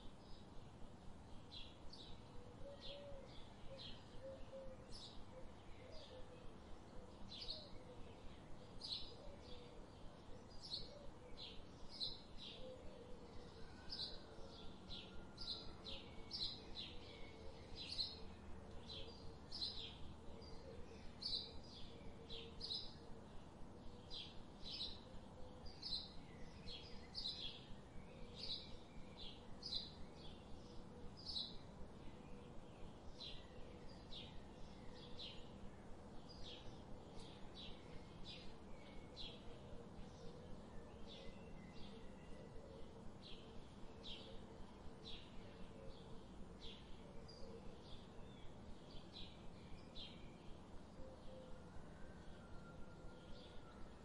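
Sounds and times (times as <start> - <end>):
faint forest background noise: 0.0 - 54.0.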